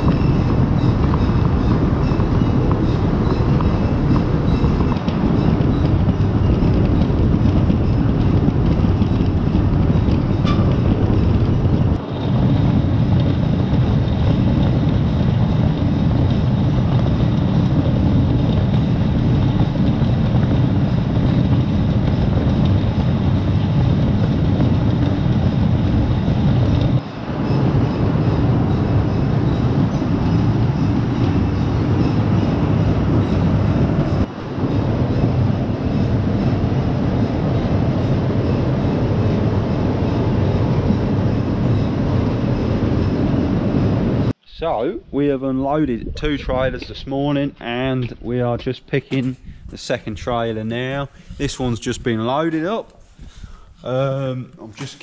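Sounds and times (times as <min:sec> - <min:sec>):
diesel farm machinery rumbling: 0:00.0 - 0:55.0.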